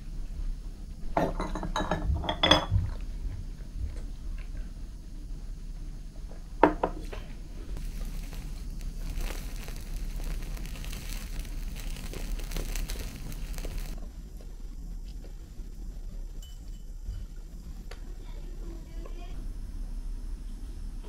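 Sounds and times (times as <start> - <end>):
dried squid crackling over flame: 0.1 - 19.4.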